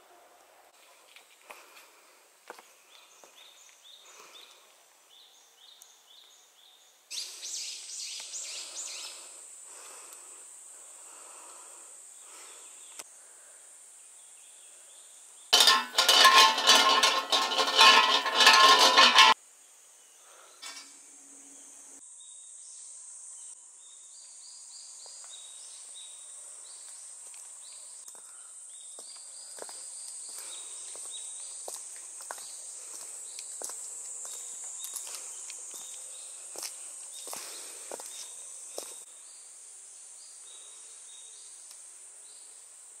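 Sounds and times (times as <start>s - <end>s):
insects humming: 2.6s - 15.8s, 19.4s - 43.0s.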